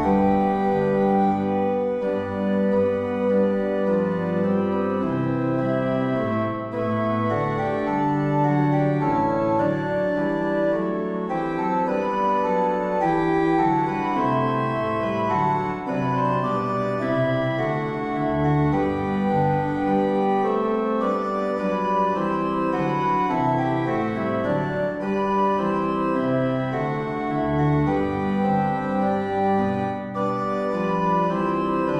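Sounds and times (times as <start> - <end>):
organ playing sustained chords: 0.0 - 31.9.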